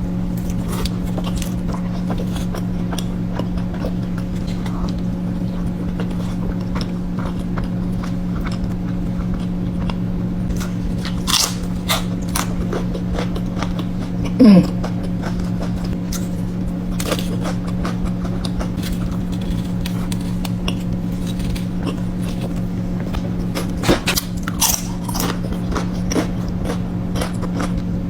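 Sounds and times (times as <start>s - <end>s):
chewing and crunching: 0.0s - 28.0s
low electrical hum: 0.0s - 28.0s.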